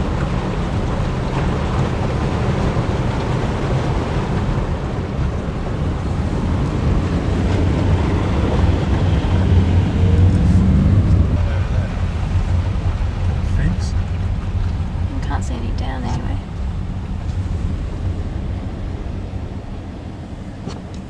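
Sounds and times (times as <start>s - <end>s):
car engine and tyres rumbling: 0.0s - 21.0s
water hissing under wheels: 0.0s - 21.0s.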